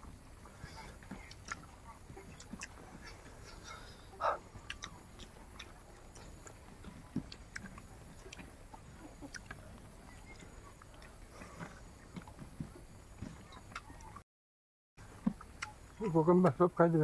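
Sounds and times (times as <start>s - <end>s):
wet chewing and lip smacks: 0.6s - 14.2s, 15.1s - 16.2s.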